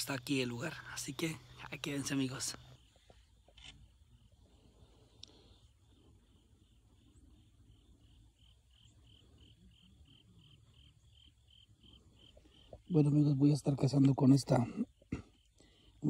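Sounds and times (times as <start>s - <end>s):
faint cricket chirping: 0.0s - 16.0s.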